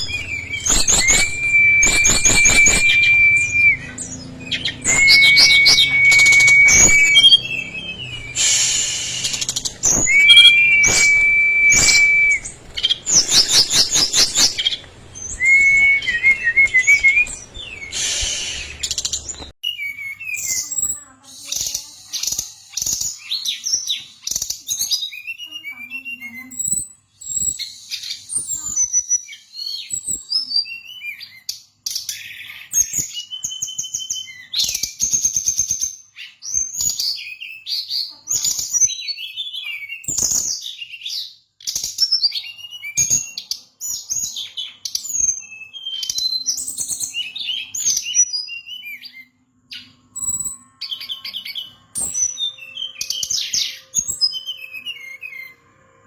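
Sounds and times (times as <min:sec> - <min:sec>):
bird singing whistled notes: 0:00.0 - 0:37.9, 0:38.6 - 0:55.8.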